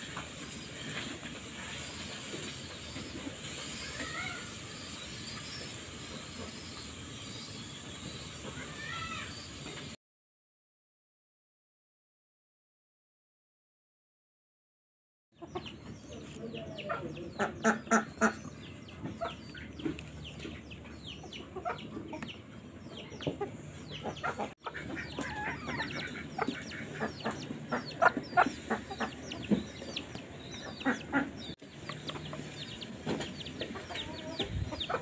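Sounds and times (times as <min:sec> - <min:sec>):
birds chirping and clucking: 0:00.0 - 0:10.0, 0:15.4 - 0:35.0.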